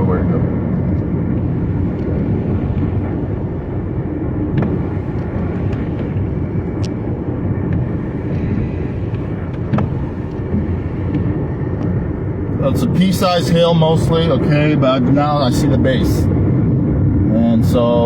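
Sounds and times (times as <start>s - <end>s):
road and wind rumble in car: 0.0s - 18.0s.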